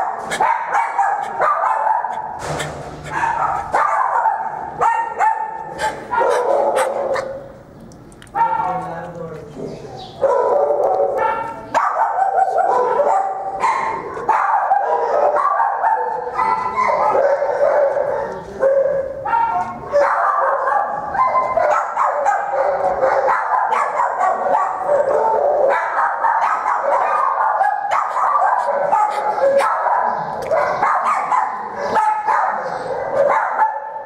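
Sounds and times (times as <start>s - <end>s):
dogs barking and yipping: 0.0s - 7.6s, 8.3s - 8.9s, 10.0s - 34.0s.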